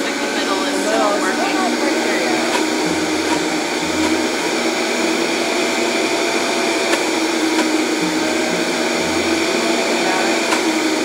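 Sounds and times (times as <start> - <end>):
blender running at high speed: 0.0 - 11.0.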